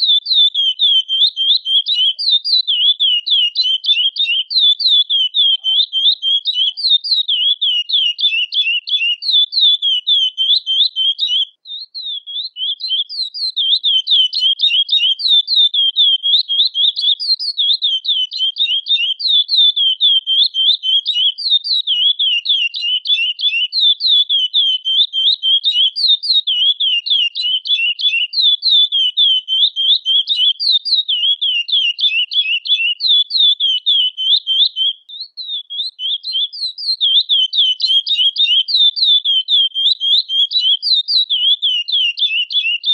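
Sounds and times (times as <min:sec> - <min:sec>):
finch singing rapid high notes: 0:00.0 - 0:42.9.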